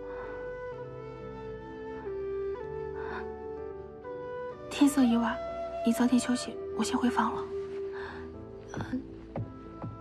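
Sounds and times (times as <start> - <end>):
soft sustained accompaniment: 0.0 - 10.0.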